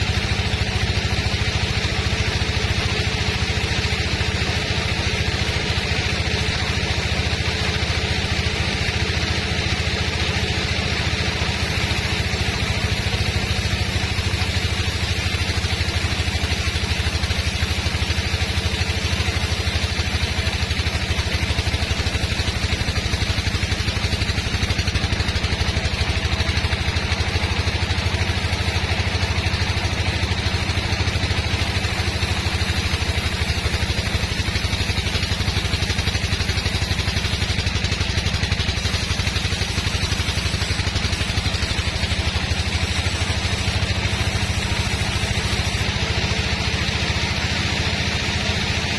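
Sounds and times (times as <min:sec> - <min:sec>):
sawmill machinery droning: 0:00.0 - 0:48.9.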